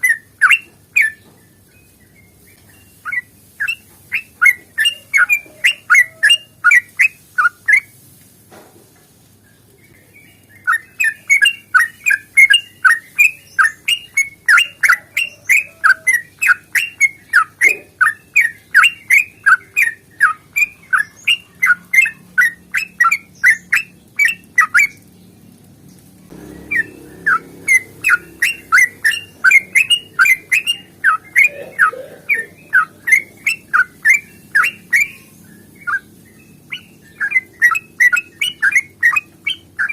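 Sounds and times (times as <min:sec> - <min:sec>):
bulbul singing rapid chirps: 0:00.0 - 0:01.3, 0:01.9 - 0:07.9, 0:09.9 - 0:25.2, 0:26.3 - 0:39.9.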